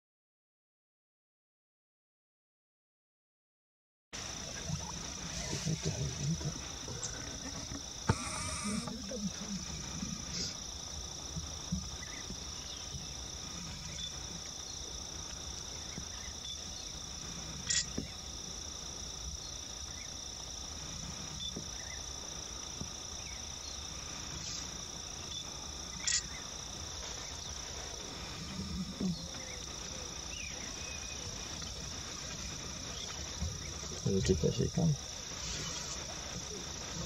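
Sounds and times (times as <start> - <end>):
high-pitched insect drone: 4.2 - 37.0.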